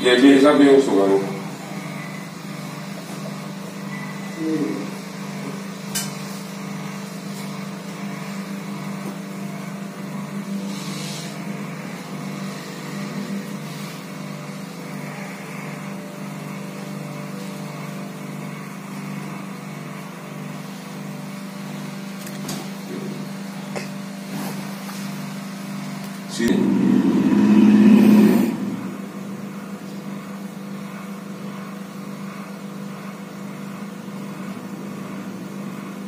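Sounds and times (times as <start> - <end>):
electric motor hum: 0.0 - 36.0.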